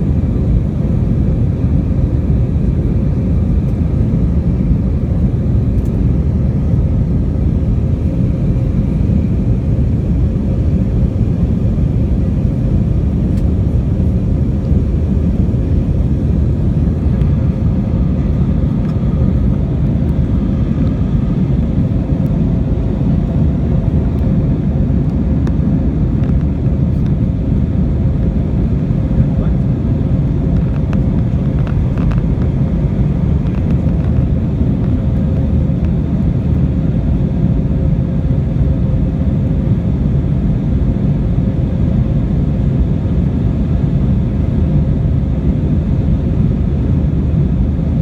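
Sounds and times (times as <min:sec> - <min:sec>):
faint constant hum: 0:00.0 - 0:48.0
jet cabin engine rumble: 0:00.0 - 0:48.0.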